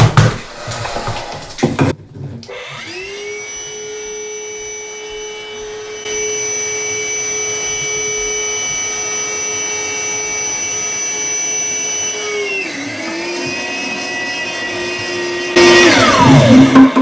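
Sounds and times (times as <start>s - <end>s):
small electric motor whining: 2.5s - 16.6s.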